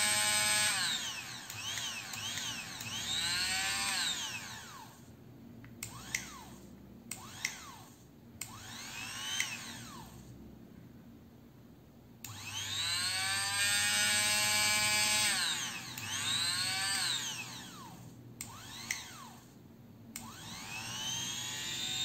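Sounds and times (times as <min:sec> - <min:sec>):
hand blender motor spinning: 0:00.0 - 0:05.0, 0:05.8 - 0:10.2, 0:12.3 - 0:19.5, 0:20.2 - 0:22.0.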